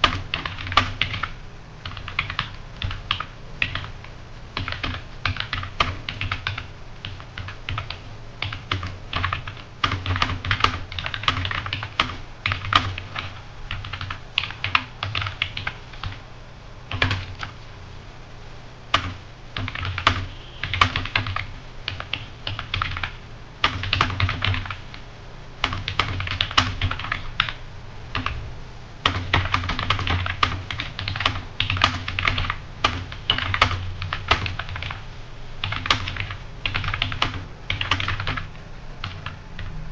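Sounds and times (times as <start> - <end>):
computer keyboard typing: 0.0 - 16.2, 16.9 - 17.7, 18.9 - 25.0, 25.6 - 28.4, 29.0 - 35.0, 35.6 - 39.8.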